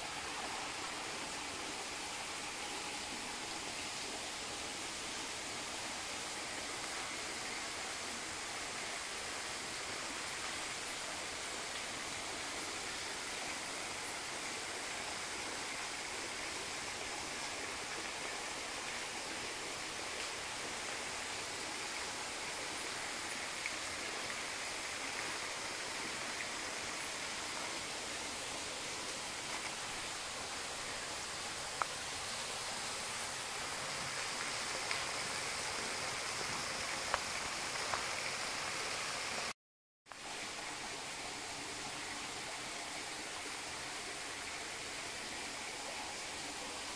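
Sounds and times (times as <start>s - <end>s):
water rushing: 0.0s - 46.9s.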